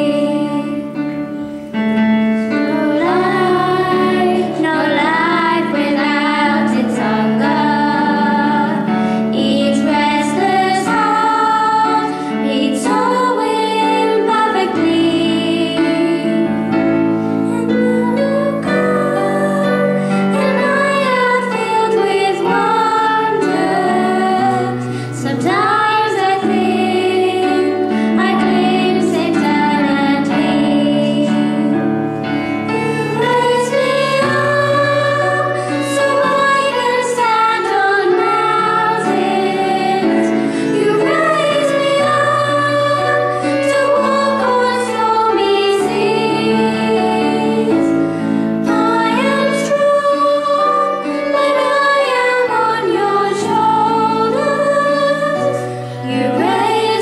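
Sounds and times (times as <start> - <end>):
girls singing into microphones: 0.0 - 1.6, 2.4 - 57.0
held accompaniment chords: 0.0 - 57.0.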